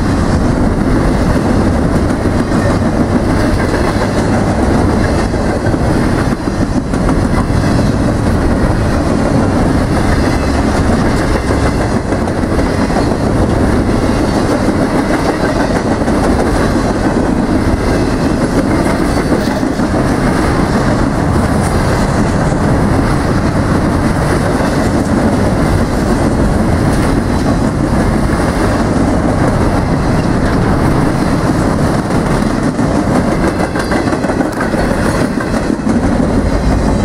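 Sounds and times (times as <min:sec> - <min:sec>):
freight train wheels on rails: 0:00.0 - 0:37.0.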